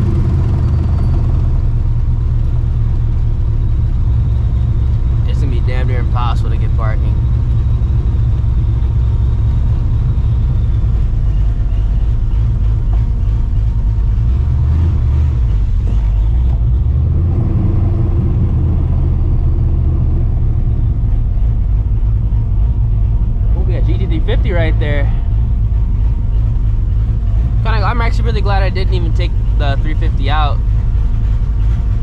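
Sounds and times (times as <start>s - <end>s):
deep car exhaust note: 0.0s - 32.0s.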